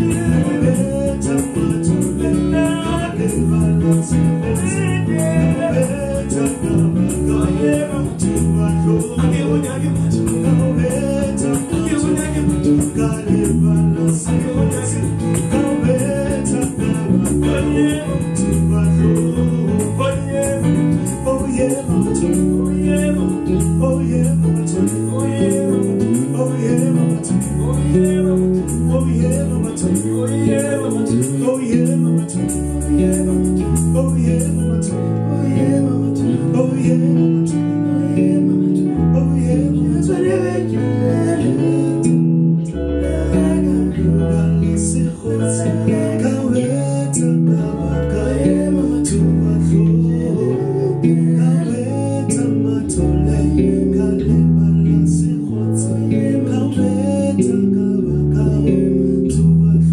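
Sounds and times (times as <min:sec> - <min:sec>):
electric bass guitar: 0:00.0 - 0:59.9
person singing: 0:00.0 - 0:59.9.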